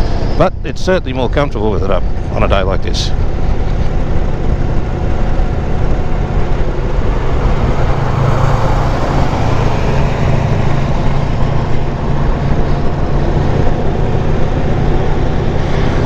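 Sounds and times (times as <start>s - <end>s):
motorcycle engine: 3.0s - 16.0s
wind noise on microphone: 3.1s - 16.0s.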